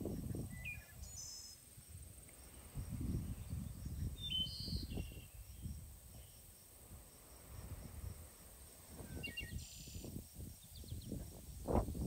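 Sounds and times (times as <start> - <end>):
small birds chirping: 0.0 - 6.6, 7.2 - 11.4
high insect trill: 0.0 - 12.0.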